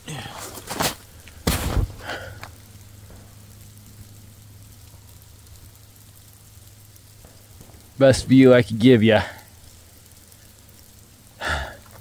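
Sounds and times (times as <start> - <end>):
snowmelt dripping: 0.0 - 12.0
steady low hum: 0.0 - 12.0.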